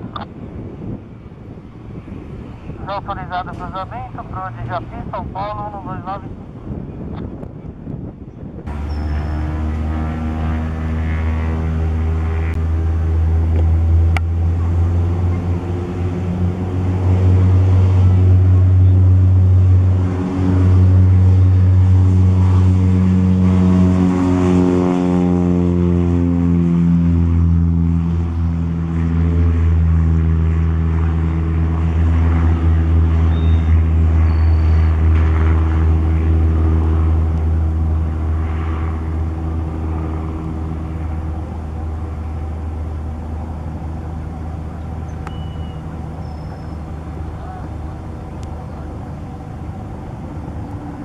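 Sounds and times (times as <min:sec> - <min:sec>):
propeller plane engine drone: 0:00.0 - 0:51.0.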